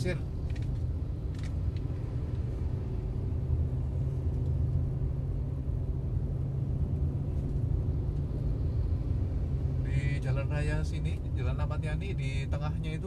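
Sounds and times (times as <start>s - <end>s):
car engine hum inside cabin: 0.0s - 13.0s
road noise: 0.0s - 13.0s.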